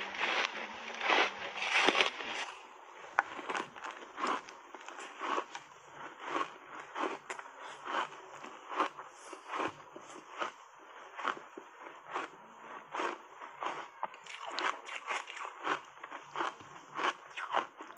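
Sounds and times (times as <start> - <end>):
ice crunching while chewing: 0.0 - 17.9.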